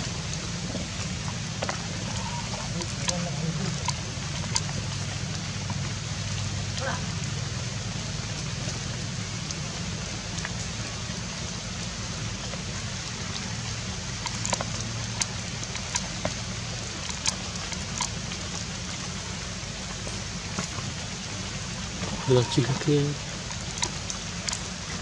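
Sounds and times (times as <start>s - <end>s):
steady rain falling: 0.0s - 25.0s
drips ticking: 0.2s - 25.0s.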